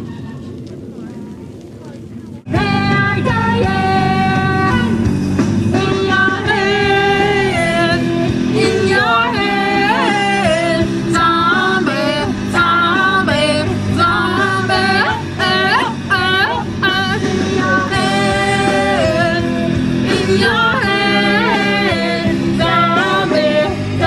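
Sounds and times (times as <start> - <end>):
woman singing: 2.5 - 5.0, 5.7 - 24.0
rock band with guitar: 2.5 - 24.0.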